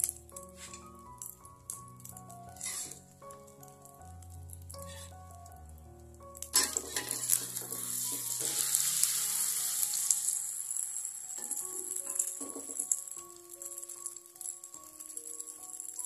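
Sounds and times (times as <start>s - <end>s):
omelette sizzling in hot oil: 0.0s - 5.6s, 6.2s - 16.0s.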